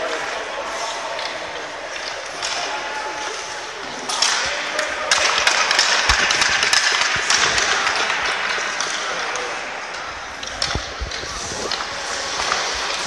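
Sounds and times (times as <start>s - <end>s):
hockey sticks clacking on ice: 0.0s - 13.0s
skate blades scraping ice: 0.0s - 13.0s.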